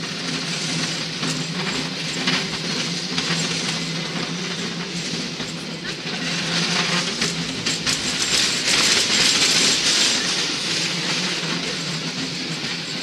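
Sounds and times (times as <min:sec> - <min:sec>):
cable car wheels rattling on rails: 0:00.0 - 0:13.0.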